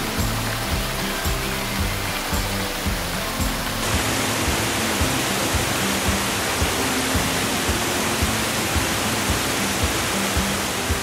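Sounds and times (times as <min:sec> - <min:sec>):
background music with low beat: 0:00.0 - 0:11.0
waterfall rushing: 0:00.0 - 0:11.0.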